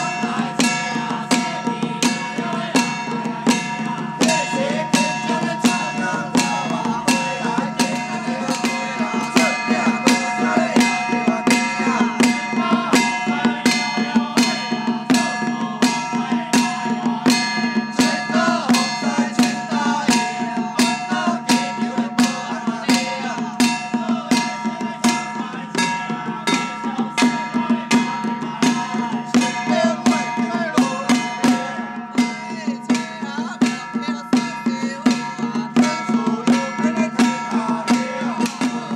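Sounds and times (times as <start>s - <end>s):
hand drums beaten with sticks: 0.0s - 38.9s
held ringing tone: 0.0s - 38.9s.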